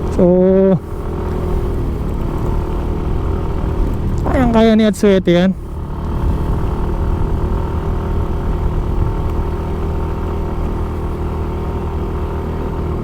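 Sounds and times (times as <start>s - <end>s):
scooter engine running under load: 0.0s - 13.0s.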